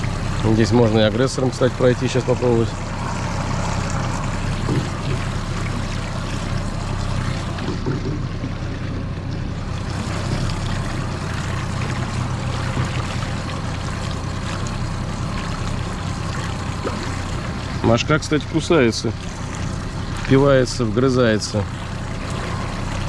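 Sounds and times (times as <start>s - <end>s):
outboard motor droning: 0.0s - 23.0s
water noise from hull: 0.0s - 23.0s.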